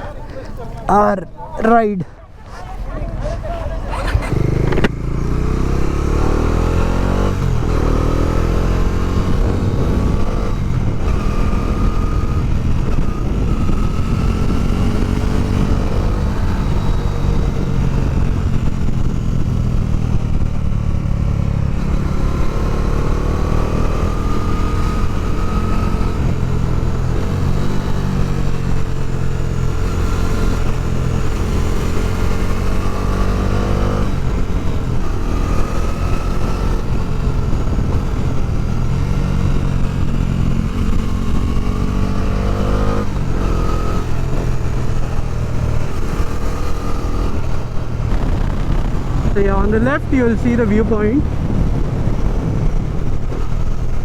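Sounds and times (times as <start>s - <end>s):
motorcycle engine revving: 2.9s - 54.0s.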